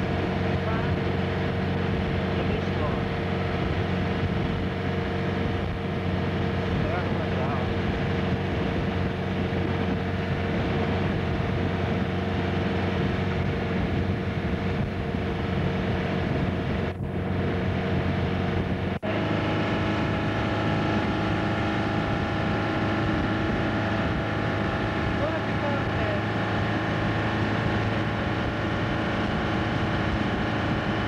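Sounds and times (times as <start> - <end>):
speedboat engine running: 0.0 - 31.0.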